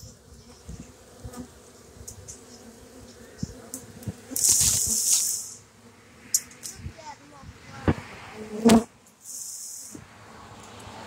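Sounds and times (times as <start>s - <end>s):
bees buzzing: 0.0s - 11.0s
loud hissing rustle: 0.0s - 11.0s.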